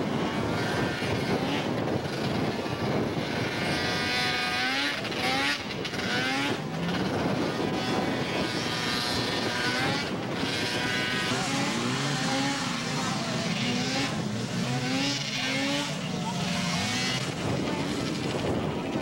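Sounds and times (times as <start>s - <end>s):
snowmobile engine revving: 0.0s - 19.0s
snowmobile engines running: 0.0s - 19.0s.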